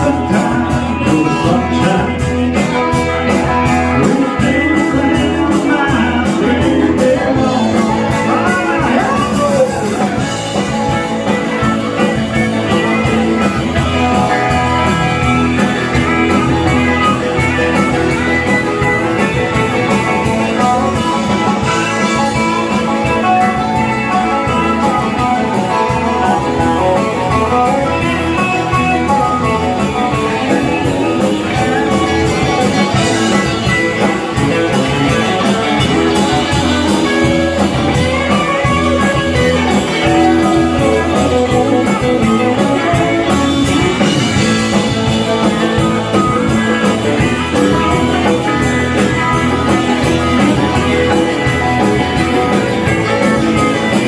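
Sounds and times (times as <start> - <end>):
country band playing: 0.0 - 54.0
guitars: 0.0 - 54.0
steady drum beat: 0.0 - 54.0.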